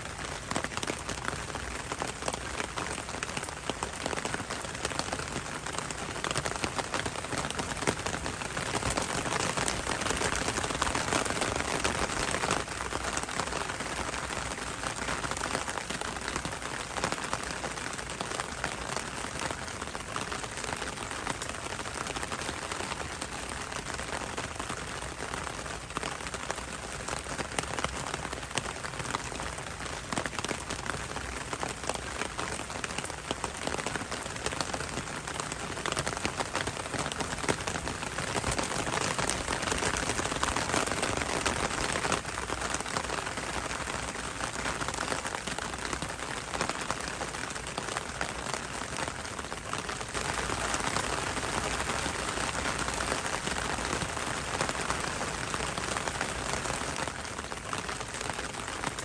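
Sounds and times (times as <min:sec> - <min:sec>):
rain pattering on an umbrella: 0:00.0 - 0:59.0.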